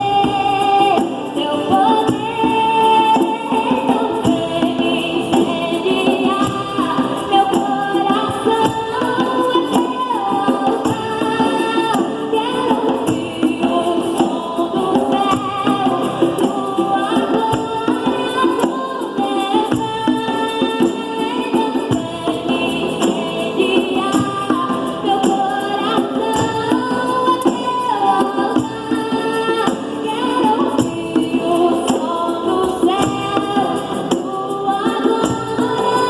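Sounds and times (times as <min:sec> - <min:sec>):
group of voices singing: 0:00.0 - 0:36.0
hand percussion beat: 0:00.0 - 0:36.0.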